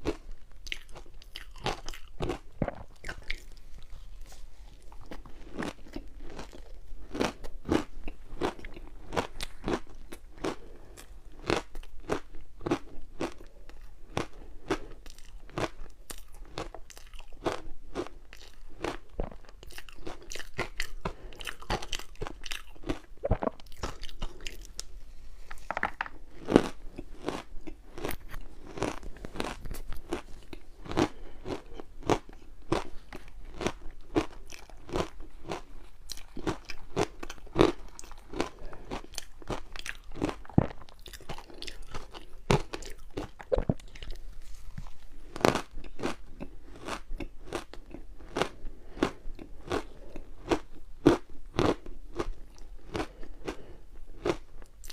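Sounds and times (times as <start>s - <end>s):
ice being chewed: 0.0s - 24.9s, 25.5s - 54.9s.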